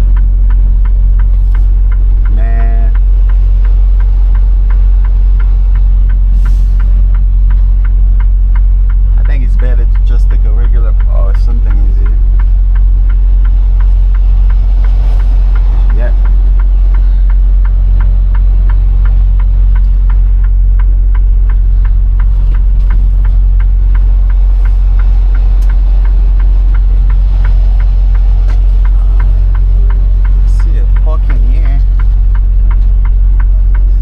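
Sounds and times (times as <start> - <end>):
regular clicking: 0.0 - 34.0
truck engine droning: 0.0 - 34.0.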